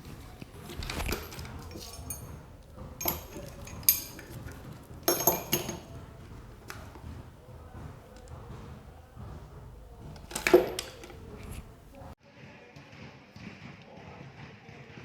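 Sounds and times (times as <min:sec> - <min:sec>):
metal hand tools clinking: 0:00.0 - 0:12.2.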